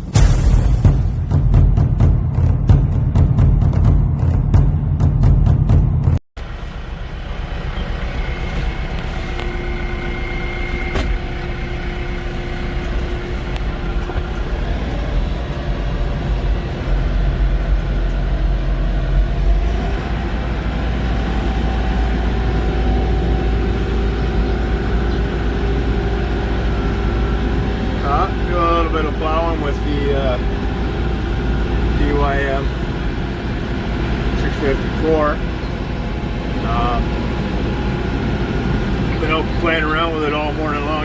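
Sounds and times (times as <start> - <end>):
tractor diesel engine under load: 4.5 - 41.0.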